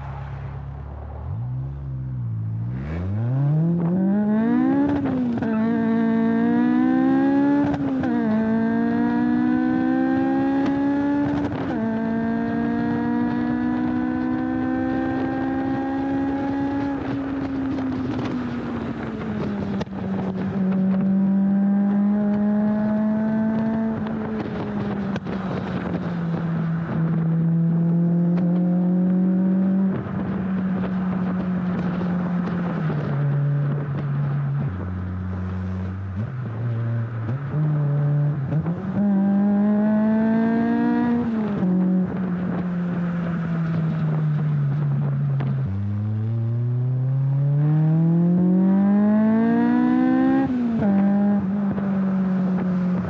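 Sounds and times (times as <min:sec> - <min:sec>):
car engine exhaust while driving: 0:00.0 - 0:53.0.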